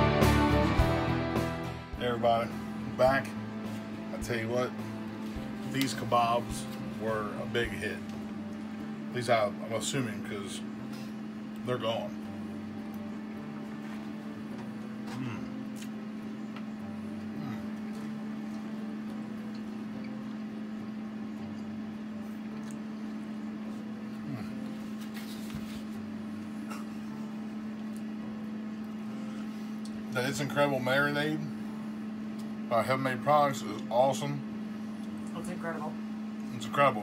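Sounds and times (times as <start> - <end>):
low appliance hum: 0.0 - 37.0.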